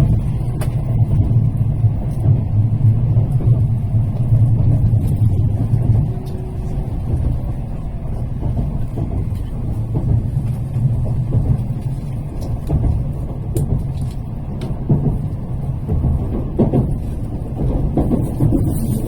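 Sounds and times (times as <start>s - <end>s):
train running low rumble: 0.0s - 19.0s.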